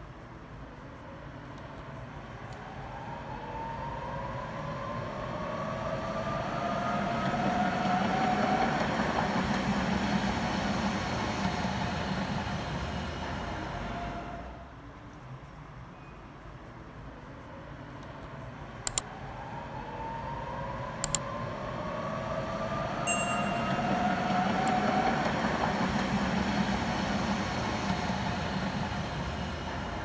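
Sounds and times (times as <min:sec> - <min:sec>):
tram running rumble: 0:01.9 - 0:14.7, 0:18.6 - 0:30.0.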